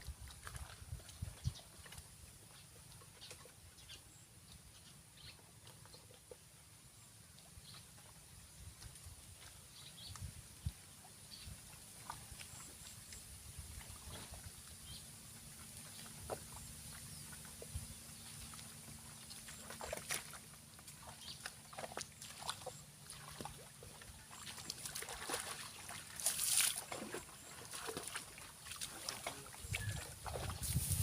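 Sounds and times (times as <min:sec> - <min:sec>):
splashing in shallow water: 0:00.0 - 0:03.8, 0:07.3 - 0:31.0.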